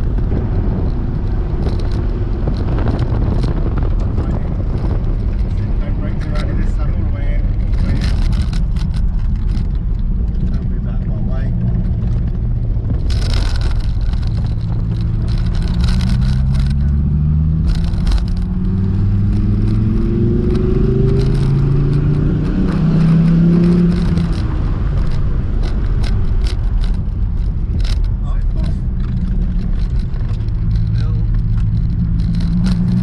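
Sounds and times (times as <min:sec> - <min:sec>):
car engine accelerating: 0:00.0 - 0:33.0
road and tyre noise: 0:00.0 - 0:33.0.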